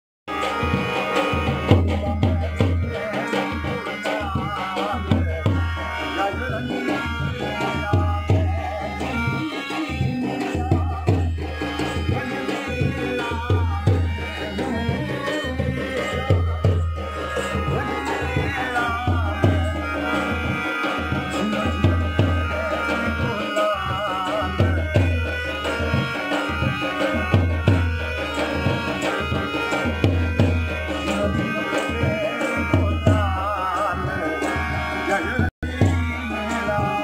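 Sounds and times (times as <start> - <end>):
dhol drum beating rhythm: 0.3 - 37.0
wavering folk melody: 0.3 - 37.0.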